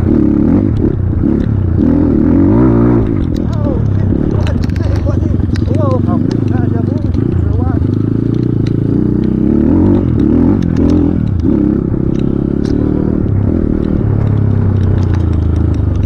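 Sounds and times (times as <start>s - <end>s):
motorcycle engine revving: 0.0s - 16.0s
sharp clicks and knocks: 0.0s - 16.0s.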